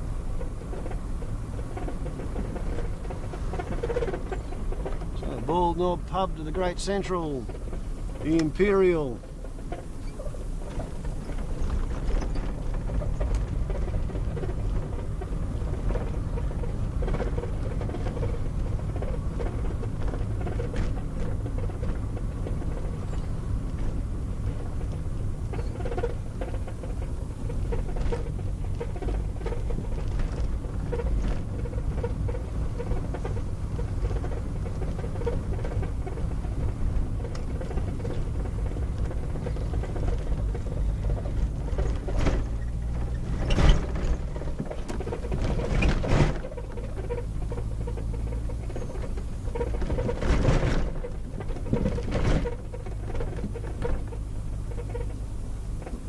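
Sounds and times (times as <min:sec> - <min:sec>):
car engine and road rumble: 0:00.0 - 0:56.0
small rattles and ticks: 0:00.1 - 0:05.5, 0:09.4 - 0:56.0.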